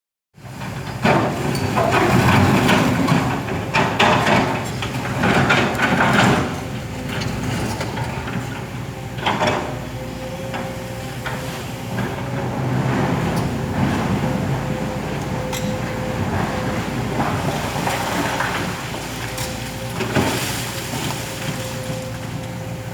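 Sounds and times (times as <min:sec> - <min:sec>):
excavator diesel engine running: 0:00.4 - 0:22.9
bucket clanking and scraping: 0:00.6 - 0:09.8, 0:11.2 - 0:22.8.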